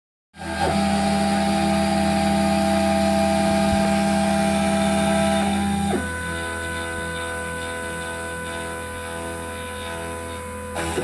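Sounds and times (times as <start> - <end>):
router motor hum and whine: 0.4 - 11.0.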